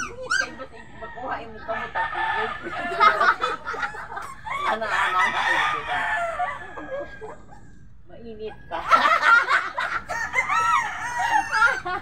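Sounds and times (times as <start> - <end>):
rooster crowing: 0.7 - 7.7, 8.8 - 12.0.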